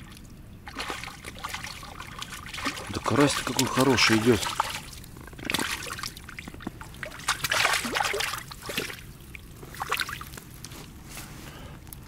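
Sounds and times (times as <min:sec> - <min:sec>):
fish splashing in water: 0:00.0 - 0:10.4.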